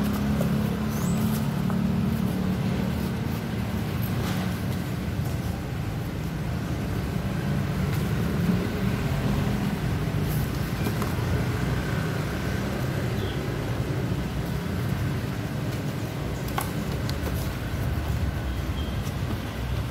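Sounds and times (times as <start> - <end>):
traffic rumble: 0.0 - 19.9.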